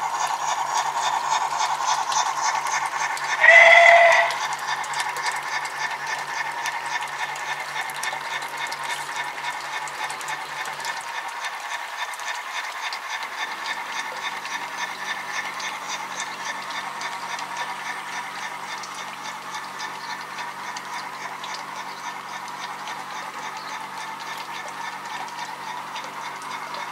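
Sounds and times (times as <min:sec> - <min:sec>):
model train motor hum: 0:00.0 - 0:26.9.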